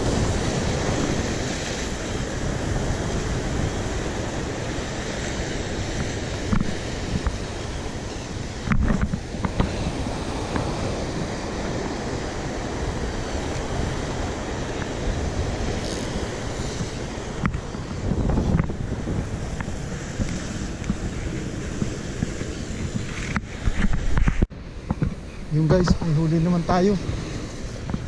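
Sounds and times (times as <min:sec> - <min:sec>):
surf rushing on rocks: 0:00.0 - 0:28.0
wind on microphone: 0:00.0 - 0:28.0.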